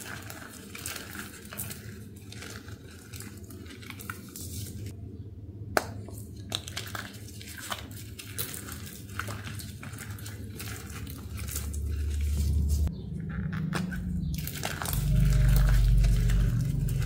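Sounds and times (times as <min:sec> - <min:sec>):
crumbly block crunching: 0:00.0 - 0:04.9, 0:06.4 - 0:12.9, 0:14.2 - 0:17.0.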